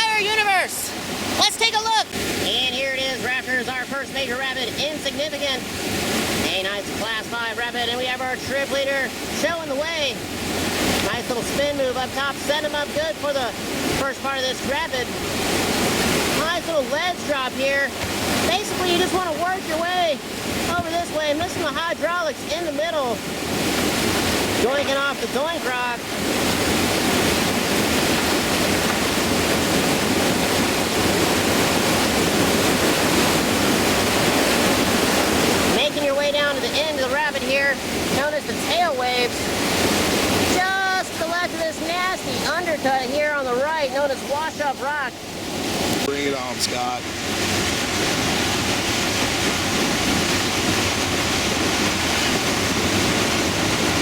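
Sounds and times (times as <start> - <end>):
whitewater roaring: 0.0 - 54.0.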